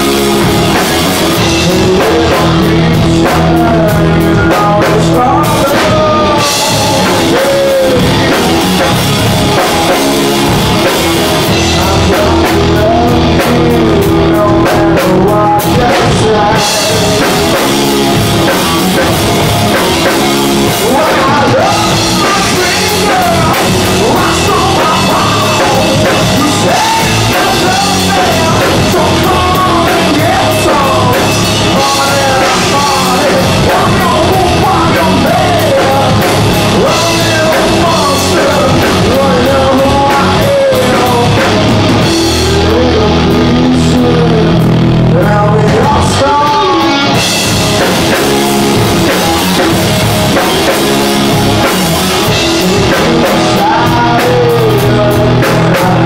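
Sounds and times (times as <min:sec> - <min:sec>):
distorted electric guitars: 0:00.0 - 0:56.0
drum kit: 0:00.0 - 0:56.0
man singing: 0:00.0 - 0:56.0.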